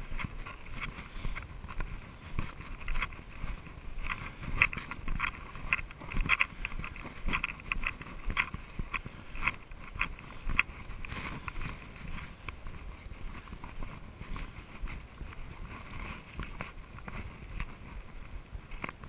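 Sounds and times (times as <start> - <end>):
bike rattling over bumps: 0.0 - 19.0.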